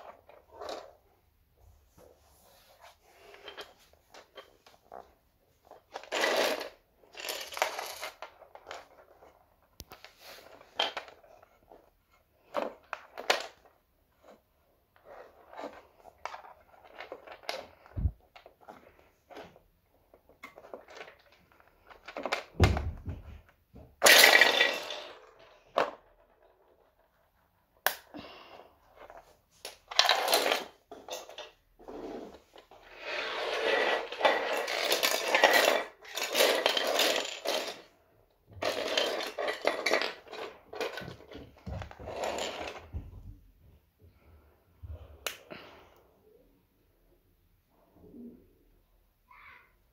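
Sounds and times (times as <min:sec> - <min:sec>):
rustling and clattering: 0:00.0 - 0:27.8, 0:28.4 - 0:44.3.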